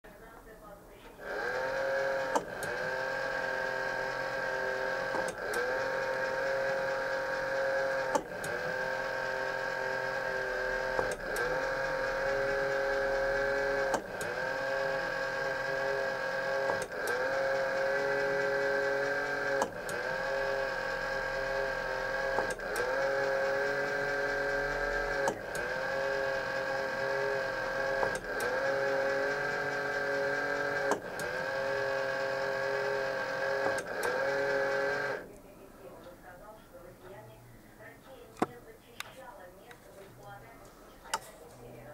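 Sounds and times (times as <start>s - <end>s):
toy electric motor whining: 1.2s - 35.2s.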